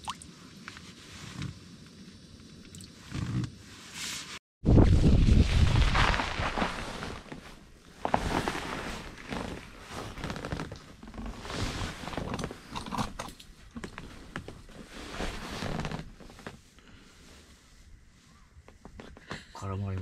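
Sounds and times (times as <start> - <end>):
rustling and shuffling: 0.3 - 20.0.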